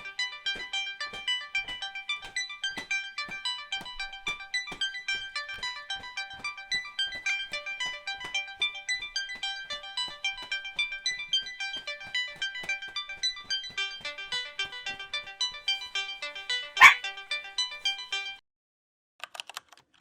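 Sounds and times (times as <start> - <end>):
quick even beat: 0.0 - 17.4.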